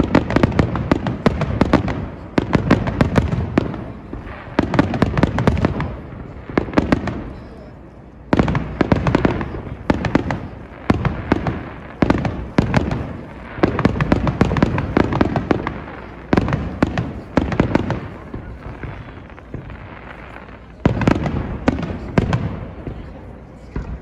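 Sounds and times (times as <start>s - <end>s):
fireworks bangs: 0.0s - 24.0s
fireworks crackling pops: 0.0s - 24.0s.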